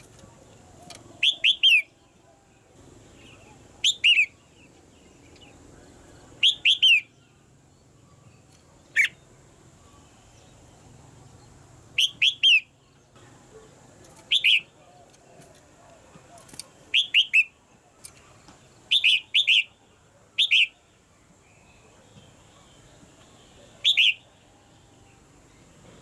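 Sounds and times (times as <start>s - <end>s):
bird calling downslurred notes: 0.0s - 11.0s, 11.9s - 20.9s, 21.5s - 26.0s.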